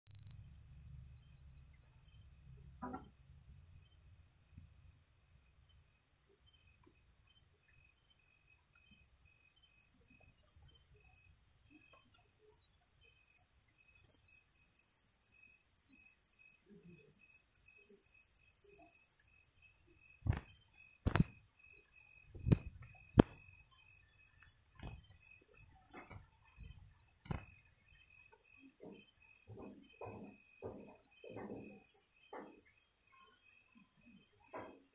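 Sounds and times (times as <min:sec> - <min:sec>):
faint pulsing insect call: 0:00.1 - 0:34.9
night insects trilling: 0:00.2 - 0:34.9.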